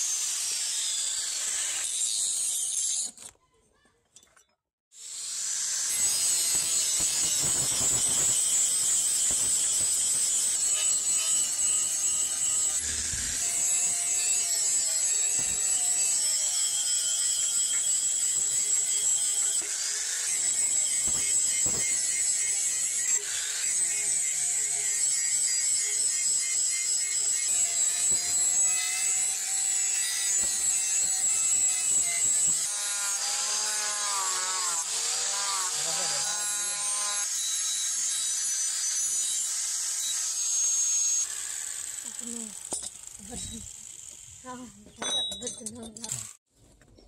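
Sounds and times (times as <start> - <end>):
angle grinder grinding steel: 0.0 - 3.2, 5.0 - 46.4.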